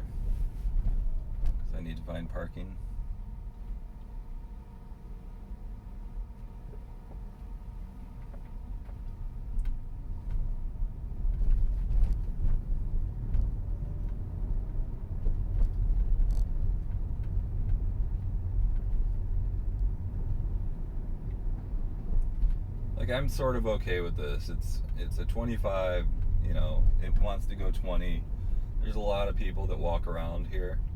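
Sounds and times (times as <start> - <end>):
road and tyre rumble inside car: 0.0 - 30.9.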